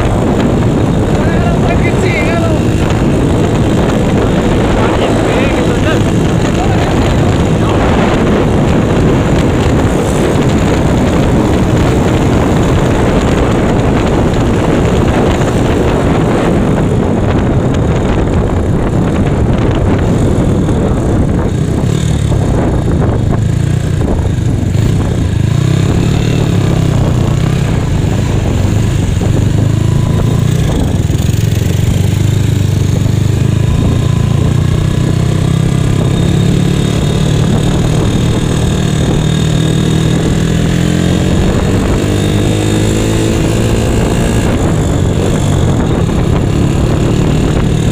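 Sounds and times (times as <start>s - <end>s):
road noise: 0.0s - 47.9s
rushing wind: 0.0s - 47.9s
scooter engine running: 0.0s - 47.9s.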